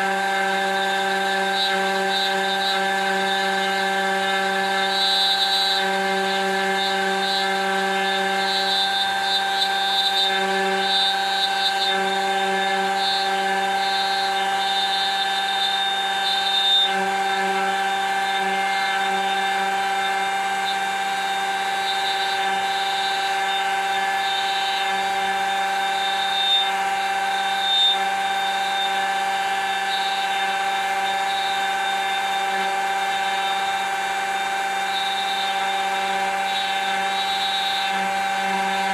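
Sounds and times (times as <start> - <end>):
electric router whining: 0.0 - 38.9.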